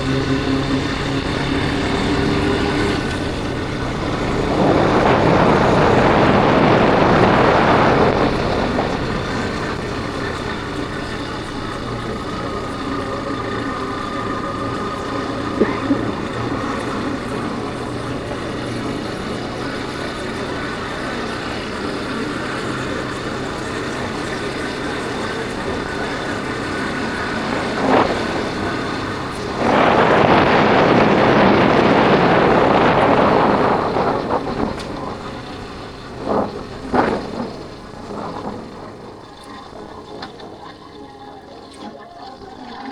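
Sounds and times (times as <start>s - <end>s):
loud rushing noise: 0.0s - 40.2s
motorcycle engine running: 0.0s - 42.9s
road noise: 0.0s - 42.9s
wind noise: 0.0s - 42.9s.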